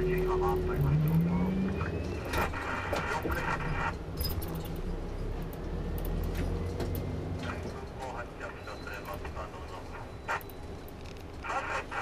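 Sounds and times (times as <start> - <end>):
low engine and road rumble: 0.0 - 12.0.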